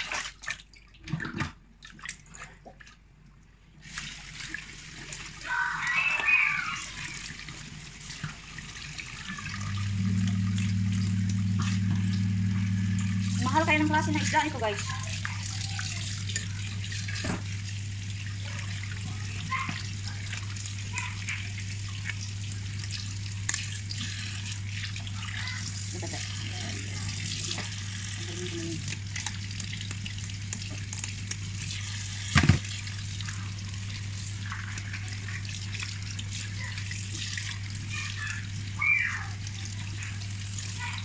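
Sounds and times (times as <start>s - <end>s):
tap water running into steel sink: 3.8s - 41.0s.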